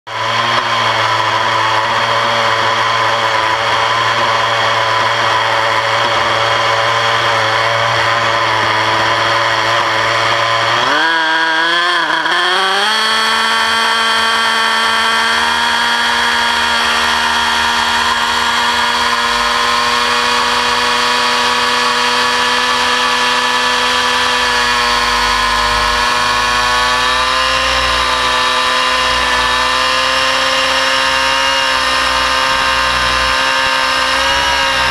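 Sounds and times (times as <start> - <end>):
model helicopter engine: 0.1 - 34.9.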